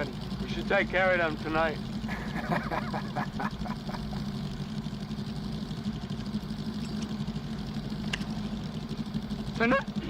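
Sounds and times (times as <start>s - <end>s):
vehicle engines idling: 0.0s - 10.0s.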